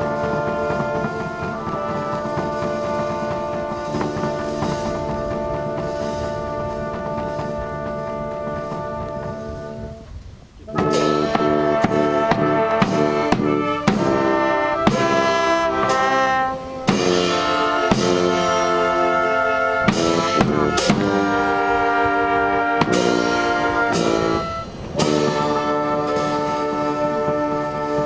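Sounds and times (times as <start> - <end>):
drum beats: 0.0 - 28.0
solemn brass chords: 0.0 - 28.0.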